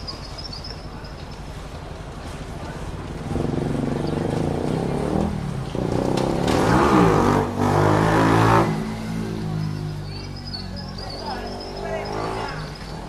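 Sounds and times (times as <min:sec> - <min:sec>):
street noise hum: 0:00.0 - 0:13.0
vehicle engine approaching: 0:01.0 - 0:13.0.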